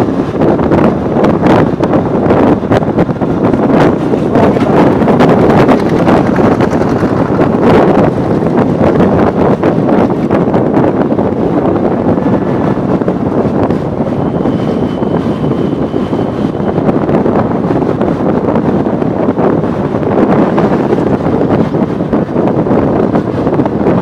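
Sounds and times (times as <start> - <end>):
motorcycle engine and road noise: 0.0 - 24.0
wind buffeting microphone: 0.0 - 24.0.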